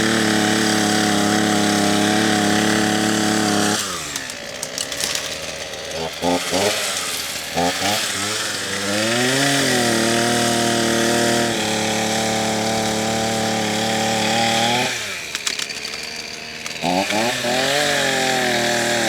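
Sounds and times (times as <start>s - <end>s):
two-stroke chainsaw revving: 0.0s - 19.0s.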